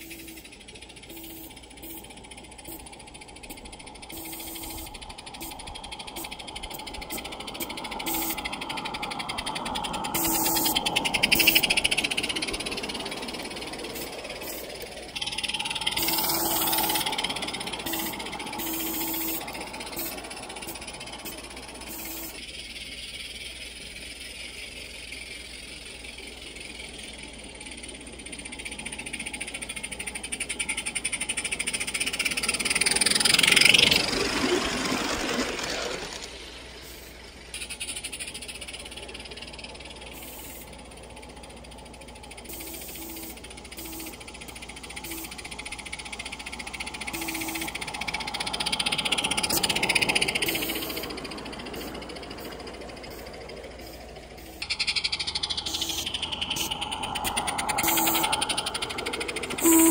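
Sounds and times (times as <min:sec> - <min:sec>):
steam locomotive running: 0:00.0 - 0:59.9.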